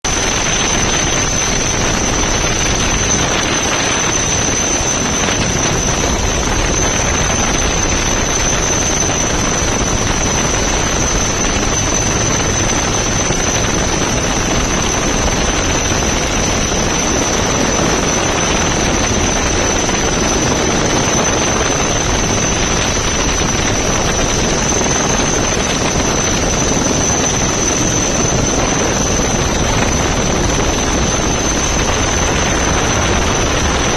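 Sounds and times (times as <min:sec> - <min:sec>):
helicopter running: 0:00.0 - 0:33.9
high-pitched whine: 0:00.0 - 0:33.9.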